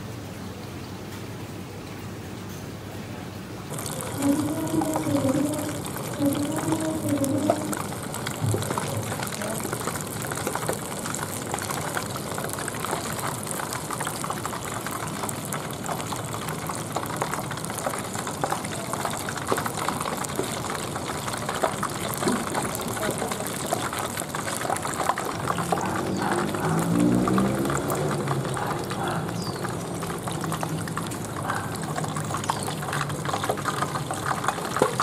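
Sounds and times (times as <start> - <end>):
hot oil sizzling in a wok: 3.7 - 35.0.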